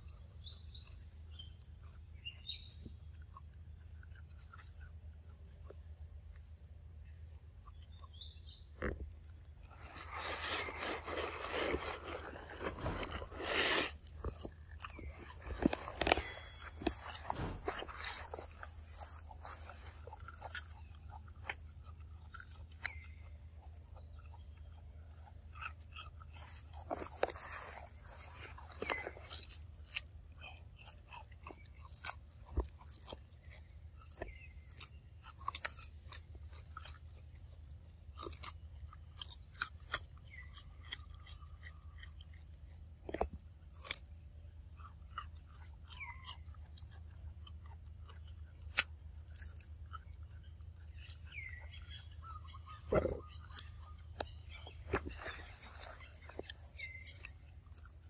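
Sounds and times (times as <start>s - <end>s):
monkey chewing crunchy fruit: 0.0s - 58.0s.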